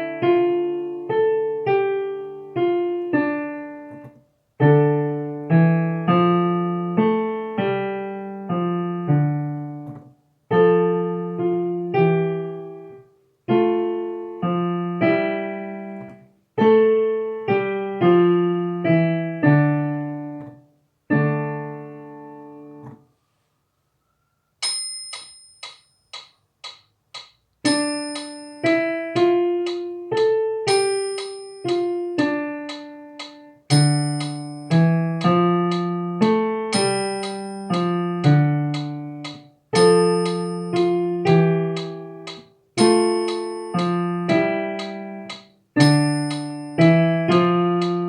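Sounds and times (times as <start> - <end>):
slow piano piece: 0.0 - 23.0, 24.6 - 48.0.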